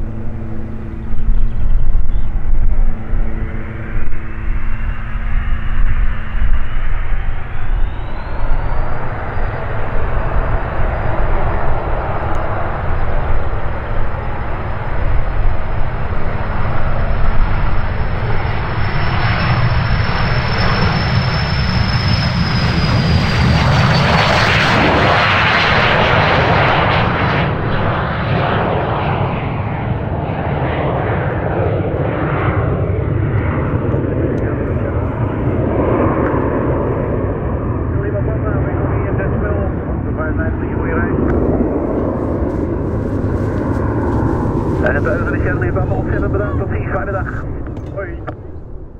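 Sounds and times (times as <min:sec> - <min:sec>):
jet engine roar: 0:00.0 - 0:48.9
jet engine whine: 0:00.0 - 0:48.9.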